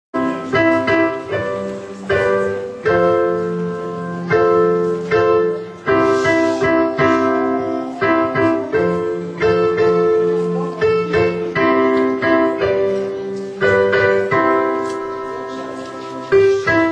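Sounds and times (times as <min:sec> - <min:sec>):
piano playing slow chords: 0:00.2 - 0:16.9.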